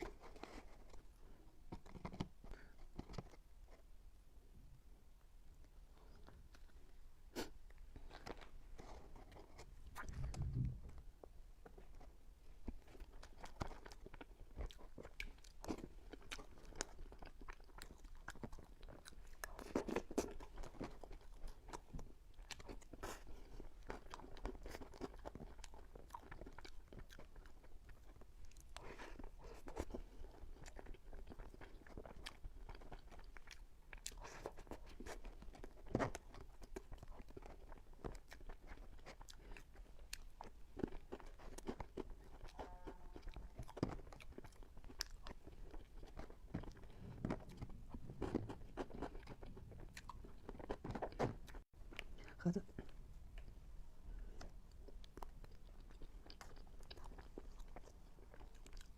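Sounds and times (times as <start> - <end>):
mouth chewing and smacking: 0.0 - 3.9, 5.5 - 58.9.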